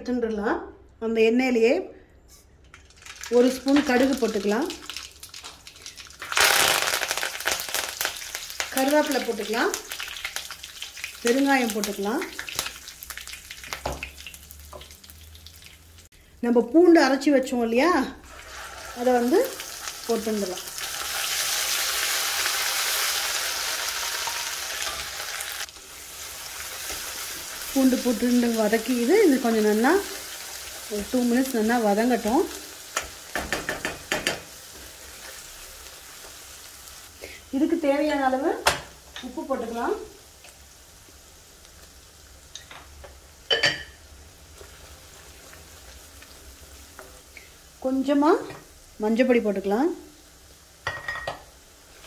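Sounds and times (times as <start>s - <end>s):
garlic paste sizzling in oil: 2.8s - 52.0s.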